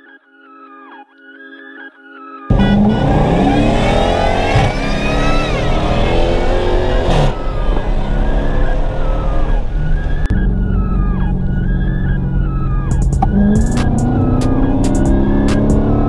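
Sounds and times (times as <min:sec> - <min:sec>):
car engine accelerating hard: 0:02.5 - 0:16.0.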